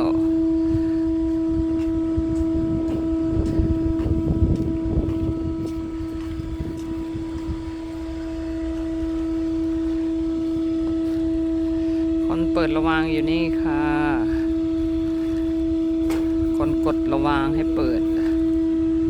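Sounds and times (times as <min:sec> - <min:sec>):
low rumbling noise: 0:00.0 - 0:19.0
ship machinery hum: 0:00.0 - 0:19.0.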